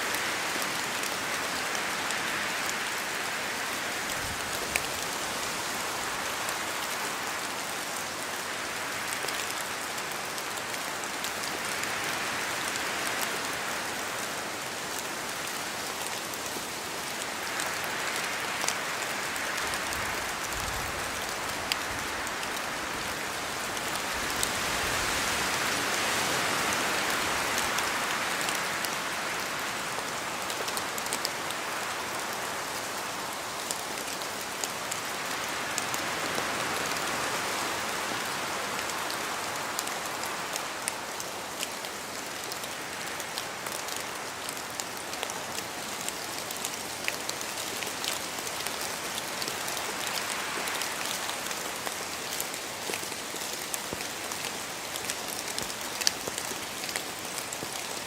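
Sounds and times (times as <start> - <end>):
rain falling through trees: 0.0 - 58.0
wind: 0.0 - 58.0.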